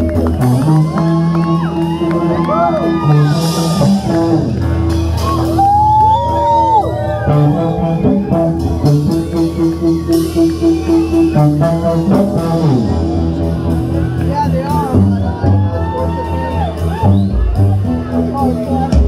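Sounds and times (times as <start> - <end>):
electric guitar lead: 0.0 - 19.0
drums and cymbals: 2.6 - 19.0.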